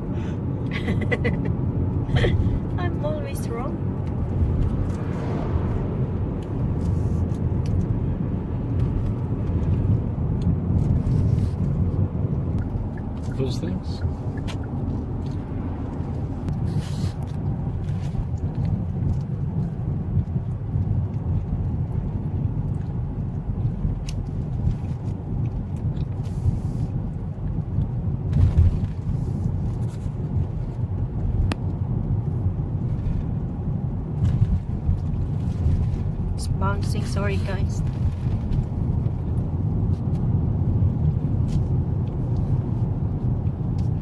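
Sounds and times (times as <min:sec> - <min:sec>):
car cabin road rumble: 0:00.0 - 0:44.0.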